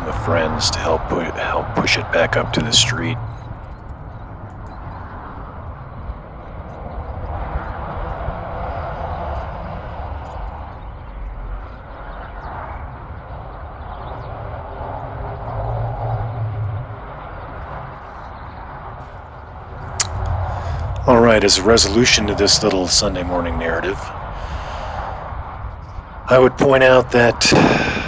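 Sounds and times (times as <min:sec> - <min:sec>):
road traffic passing: 0:00.0 - 0:10.7, 0:12.8 - 0:28.0.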